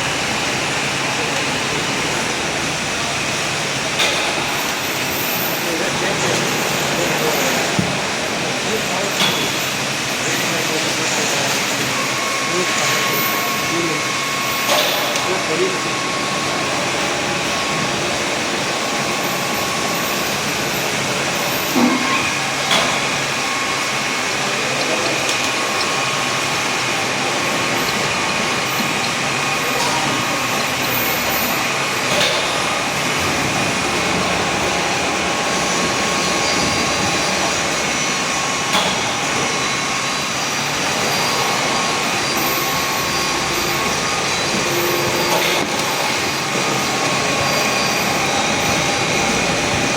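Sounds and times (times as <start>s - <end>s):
milling machine running: 0.0s - 49.9s.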